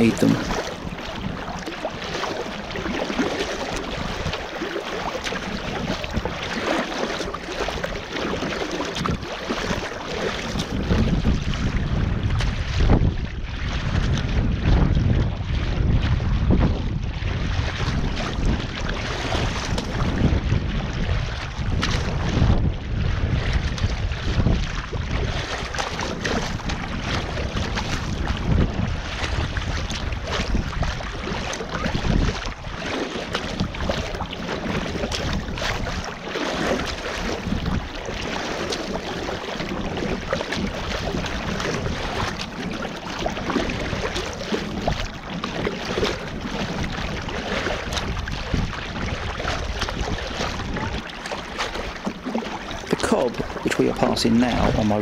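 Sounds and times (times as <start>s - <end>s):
water slapping against kayak: 0.0s - 55.0s
wind buffeting microphone: 0.0s - 55.0s.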